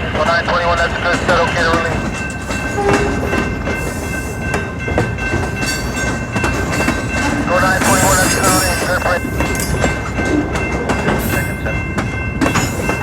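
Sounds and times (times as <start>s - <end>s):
freight train rolling by: 0.0s - 13.0s.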